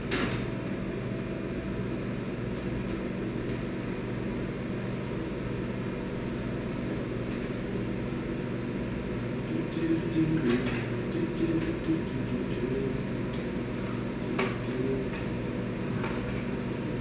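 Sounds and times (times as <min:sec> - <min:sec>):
microwave humming: 0:00.0 - 0:17.0.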